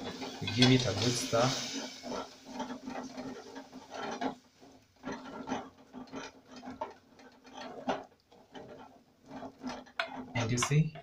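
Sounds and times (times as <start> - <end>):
wooden spoon scraping a pot: 0.0 - 11.0.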